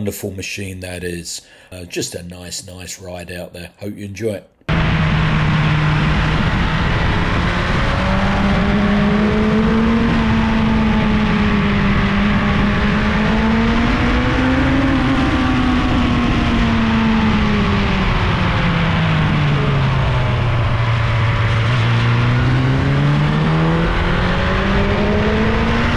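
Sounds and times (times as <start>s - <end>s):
motorcycle engine running: 4.7s - 25.9s.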